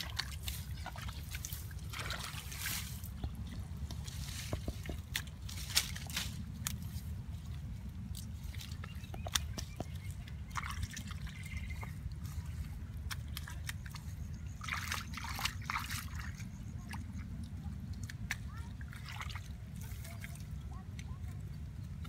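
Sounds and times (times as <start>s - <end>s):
hands sloshing in muddy water: 0.0s - 22.0s
steady low rumble: 0.0s - 22.0s
water drips and splashes: 0.0s - 22.0s
wet squelches: 0.0s - 22.0s.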